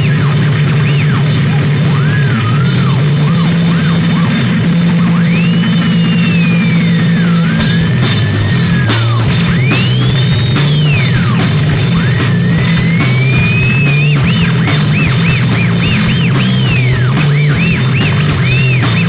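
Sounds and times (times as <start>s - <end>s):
heavy rock music: 0.0s - 19.0s
stepping bass line: 0.0s - 19.0s.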